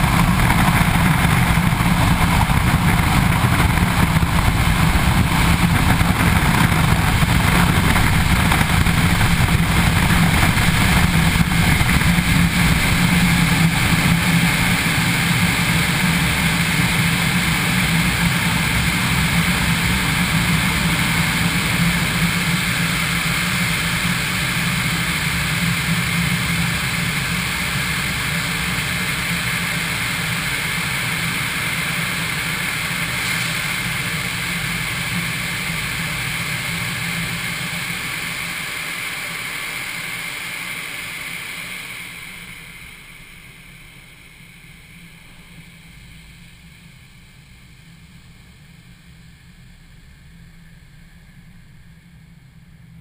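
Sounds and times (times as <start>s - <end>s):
air dryer blowers roaring: 0.0s - 46.8s.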